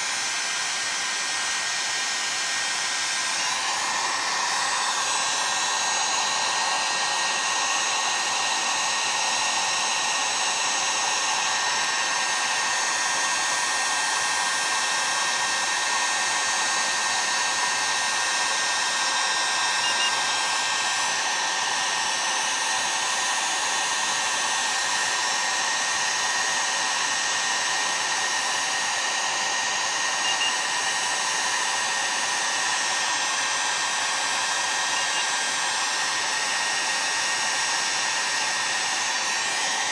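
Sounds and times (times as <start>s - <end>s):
heat gun blowing: 0.0s - 39.9s.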